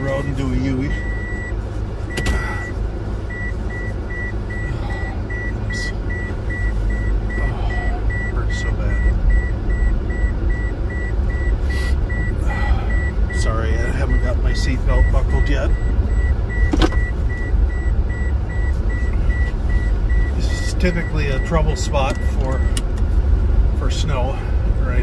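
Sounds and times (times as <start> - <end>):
seatbelt reminder beeps: 0.0 - 23.0
car driving rumble from cabin: 0.0 - 25.0.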